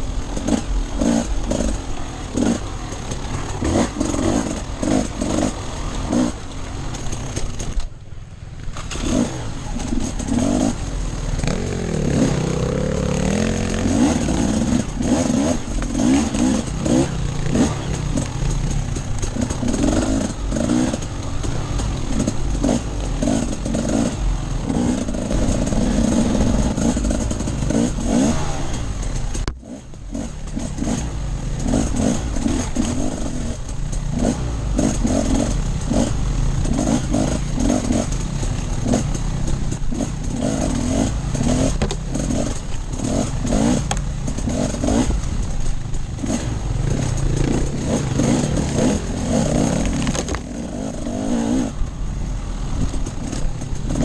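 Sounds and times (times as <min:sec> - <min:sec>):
dirt bike engine revving: 0:00.0 - 0:07.8, 0:08.8 - 0:54.0.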